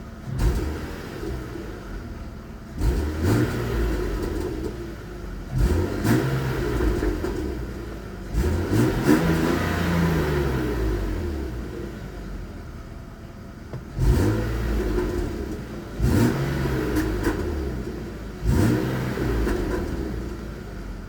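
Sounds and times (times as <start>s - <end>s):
car engine revving: 0.0s - 12.9s, 13.7s - 21.0s.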